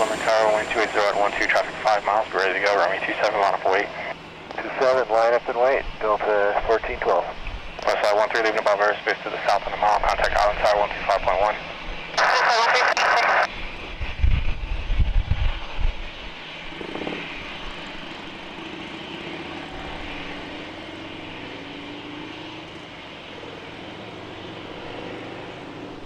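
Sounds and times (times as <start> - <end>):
low uneven rumble: 0.0 - 24.4
jet engines rushing: 0.0 - 26.0.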